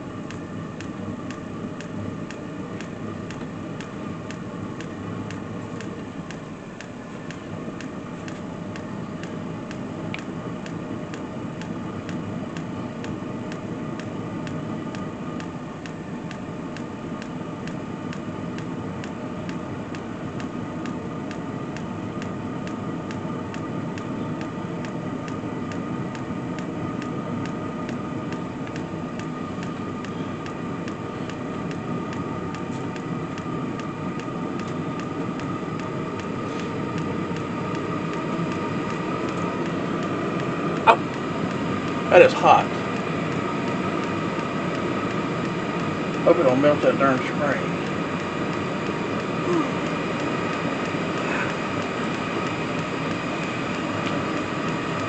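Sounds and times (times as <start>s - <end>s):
air heater fan rushing and whining: 0.0s - 55.0s
exhaust blowing: 0.0s - 55.0s
light regular ticking: 0.0s - 55.0s.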